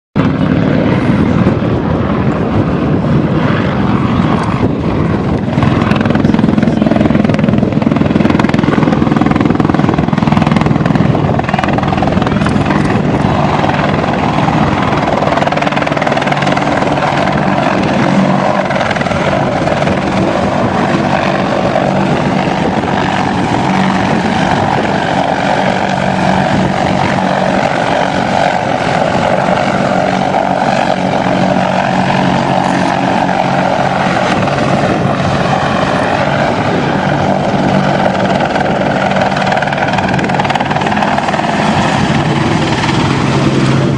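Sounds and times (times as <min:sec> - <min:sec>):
helicopter rotor drone: 0:00.2 - 0:43.9
higher engine hum: 0:00.2 - 0:43.9.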